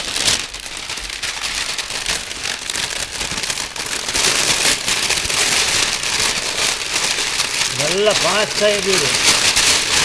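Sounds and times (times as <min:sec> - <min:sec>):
paper crackling like fire: 0:00.0 - 0:10.0.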